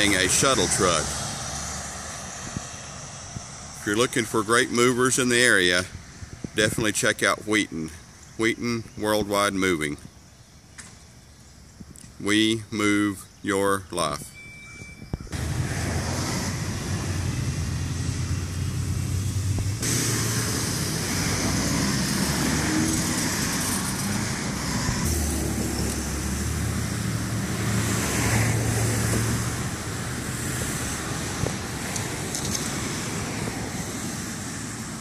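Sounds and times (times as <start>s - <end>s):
passing vehicles engine and tyre noise: 0.0s - 35.0s.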